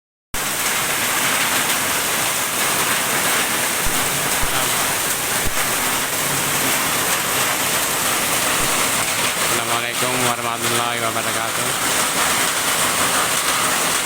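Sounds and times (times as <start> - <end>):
heavy rain pouring: 0.4 - 14.0.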